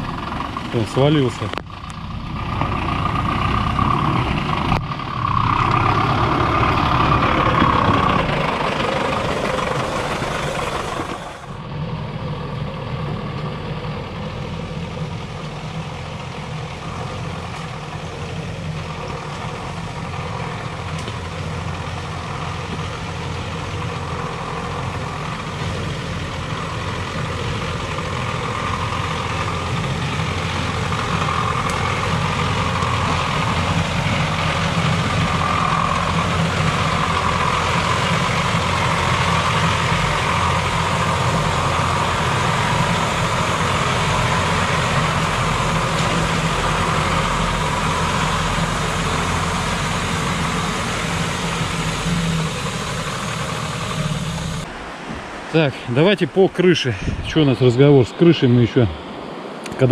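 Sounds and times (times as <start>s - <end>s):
truck engine at low revs: 0.0s - 59.9s.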